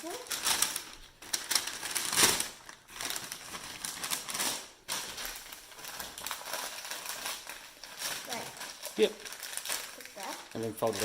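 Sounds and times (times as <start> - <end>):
paper bag rustling and crinkling: 0.0 - 11.0.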